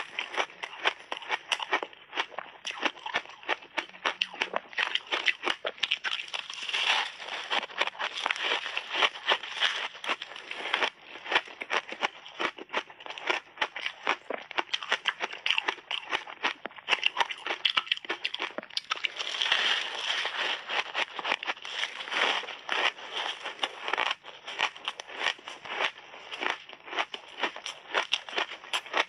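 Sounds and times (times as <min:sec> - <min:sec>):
ice cake being chewed: 0:00.0 - 0:29.0.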